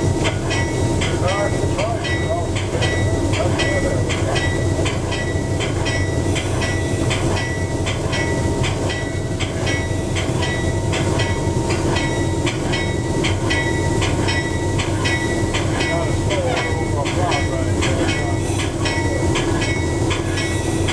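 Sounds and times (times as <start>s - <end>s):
railroad bell ringing: 0.0s - 20.9s
train rumbling: 0.0s - 20.9s.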